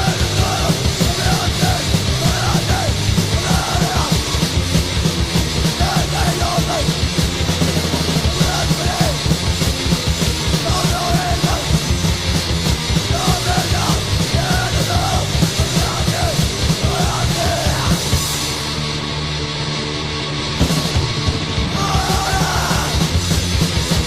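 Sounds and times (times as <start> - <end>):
fast pounding drums: 0.0 - 18.8, 20.6 - 24.0
distorted guitar and bass: 0.0 - 24.0.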